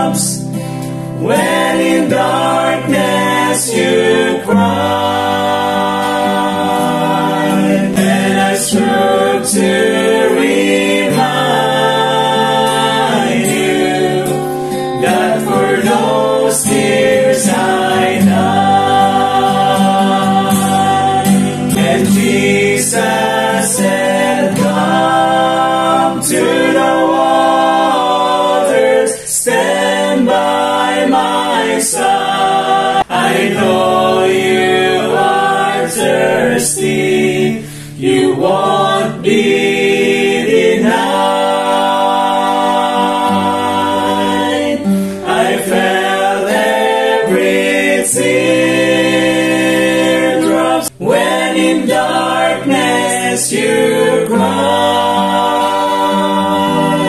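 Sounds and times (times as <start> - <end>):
group singing gospel in harmony: 0.0 - 57.0
strummed acoustic guitar: 0.0 - 57.0.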